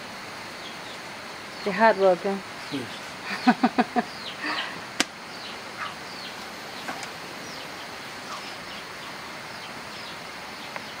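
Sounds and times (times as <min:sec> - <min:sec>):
birds chirping: 0:00.0 - 0:11.0
steady hiss: 0:00.0 - 0:11.0.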